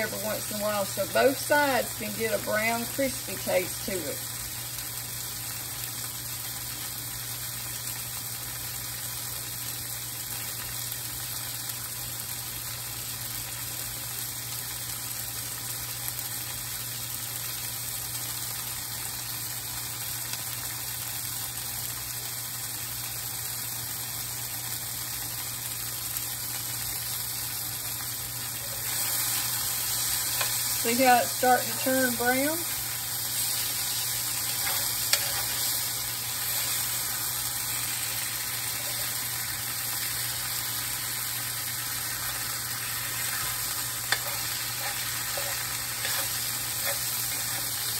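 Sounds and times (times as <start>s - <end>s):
vegetables sizzling in oil: 0.0s - 47.9s.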